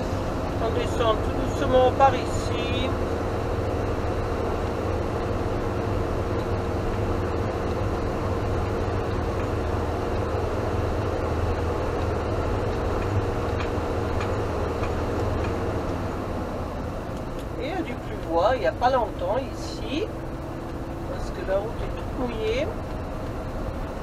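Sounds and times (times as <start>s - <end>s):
motorhome engine and tyre drone: 0.0s - 24.0s.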